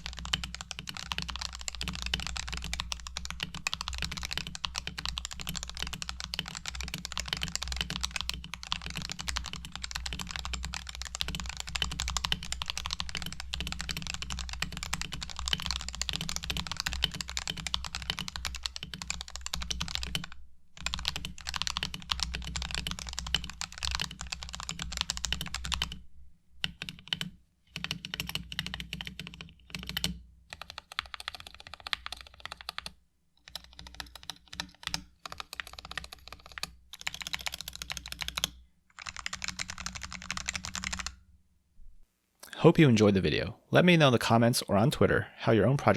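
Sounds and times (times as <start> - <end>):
mechanical keyboard typing: 0.0 - 26.0, 26.6 - 41.2.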